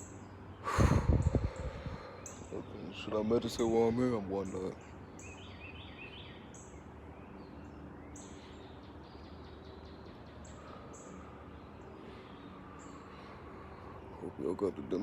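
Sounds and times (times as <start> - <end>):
birds chirping: 0.0 - 15.0
faint steady hum: 0.0 - 15.0.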